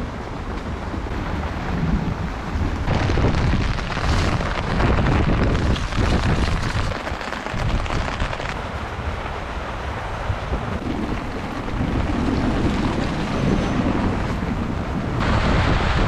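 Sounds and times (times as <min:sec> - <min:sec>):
heavy rain: 0:00.0 - 0:16.0
wind rumbling on microphone: 0:00.0 - 0:16.0.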